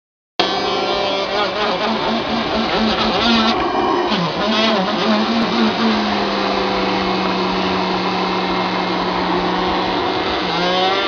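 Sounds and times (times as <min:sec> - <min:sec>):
low buzzing string vibration: 0:00.4 - 0:11.0
vacuum cleaner running: 0:00.4 - 0:11.0.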